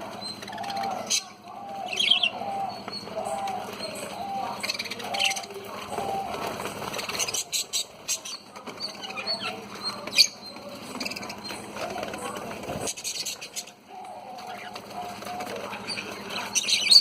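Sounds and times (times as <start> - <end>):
budgies chirping: 0.0 - 17.0.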